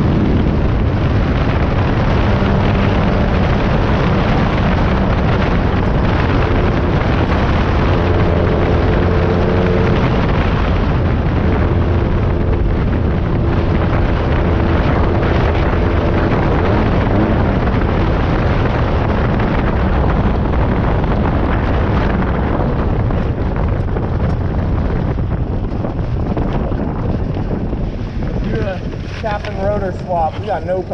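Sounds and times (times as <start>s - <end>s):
buggy engine under load: 0.0s - 30.9s
wind noise: 0.0s - 30.9s.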